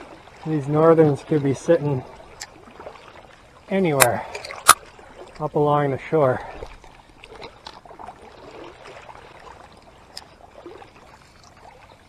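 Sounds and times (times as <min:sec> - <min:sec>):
water trickling in river: 0:00.0 - 0:12.0.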